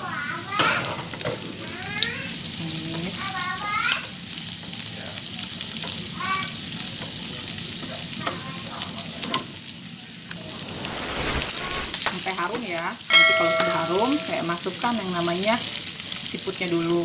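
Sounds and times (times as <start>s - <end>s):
garlic sizzling in hot oil: 0.0s - 17.0s.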